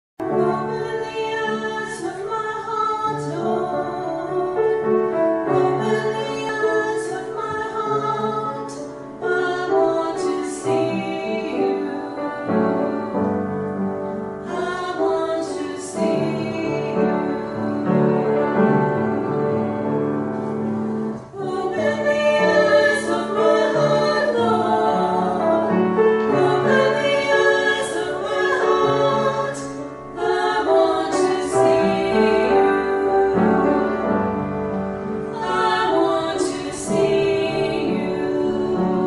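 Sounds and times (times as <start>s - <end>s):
choir singing: 0.2s - 39.0s.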